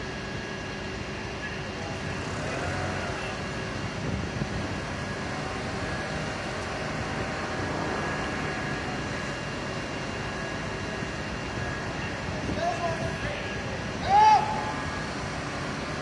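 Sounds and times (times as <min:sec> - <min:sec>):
engine running: 0:00.0 - 0:16.0
street noise: 0:00.0 - 0:16.0.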